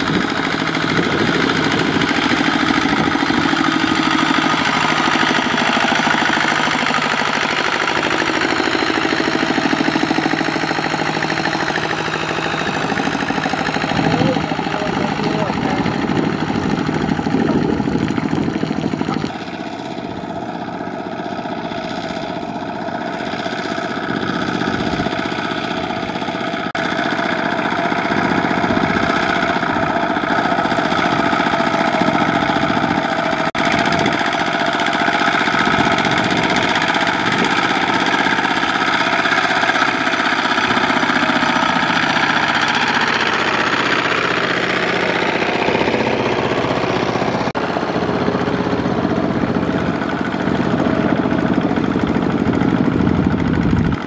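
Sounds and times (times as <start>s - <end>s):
diesel engines running under load: 0.0s - 54.0s.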